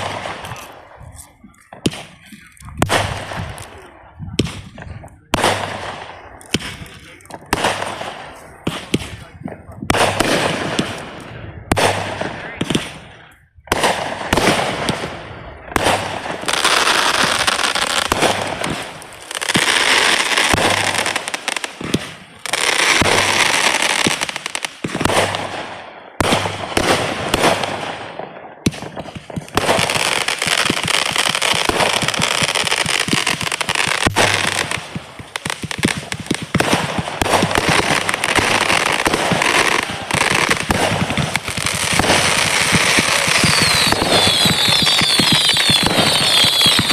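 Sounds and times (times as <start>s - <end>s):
fireworks crackling and popping: 0.0s - 46.9s.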